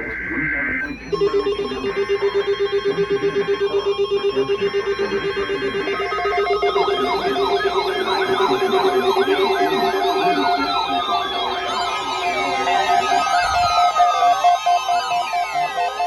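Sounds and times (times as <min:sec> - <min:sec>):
rapidly pulsing electronic beep: 0:00.0 - 0:16.0
second alarm tone: 0:00.0 - 0:16.0
warbling siren-like sweep: 0:00.0 - 0:16.0.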